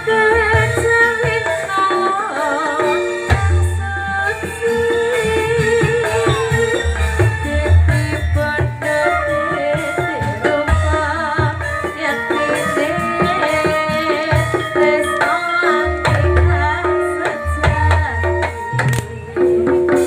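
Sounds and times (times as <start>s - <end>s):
ringing gamelan percussion: 0.0s - 20.0s.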